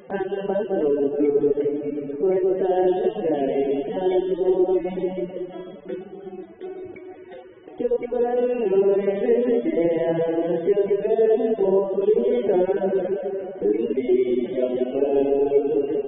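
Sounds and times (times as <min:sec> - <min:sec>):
person singing: 0:00.0 - 0:16.0
musical accompaniment: 0:01.2 - 0:16.0.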